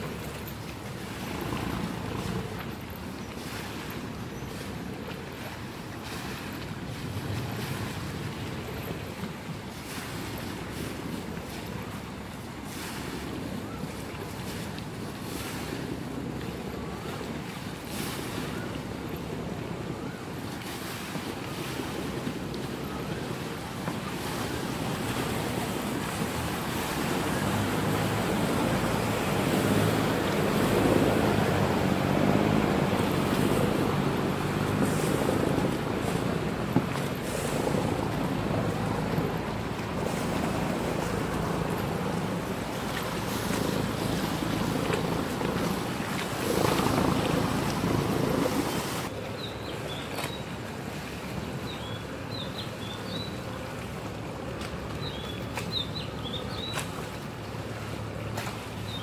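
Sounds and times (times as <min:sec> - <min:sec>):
boat diesel engine droning: 0:00.0 - 0:49.9
churning water: 0:00.0 - 0:59.0.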